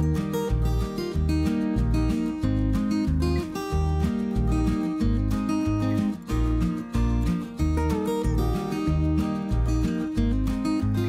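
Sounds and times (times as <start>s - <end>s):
acoustic guitar tune over beat: 0.0s - 11.0s.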